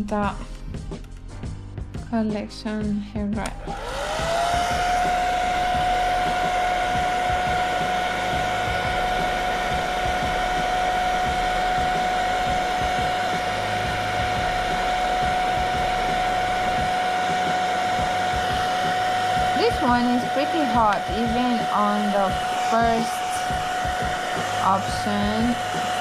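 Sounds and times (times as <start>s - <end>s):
hair dryer running: 3.4s - 26.0s.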